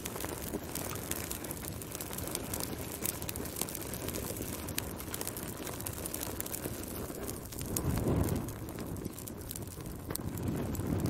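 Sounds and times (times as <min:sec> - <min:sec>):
fire crackling and popping: 0:00.0 - 0:11.0
low rush of flame: 0:00.0 - 0:11.0.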